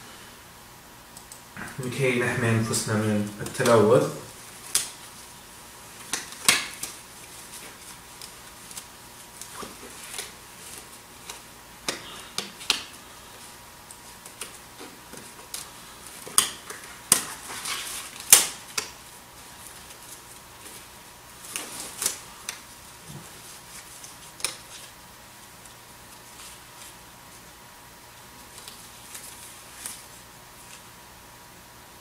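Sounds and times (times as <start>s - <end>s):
faint electrical hum: 0.0s - 32.0s.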